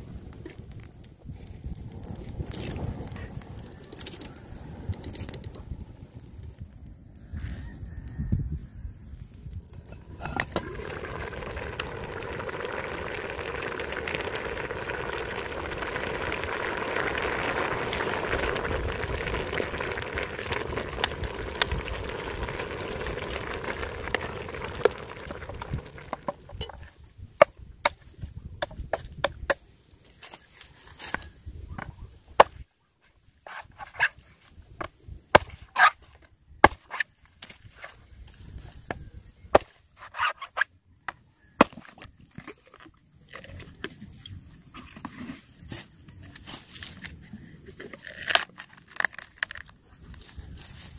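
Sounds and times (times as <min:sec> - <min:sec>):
stew simmering and bubbling: 0:00.0 - 0:50.9.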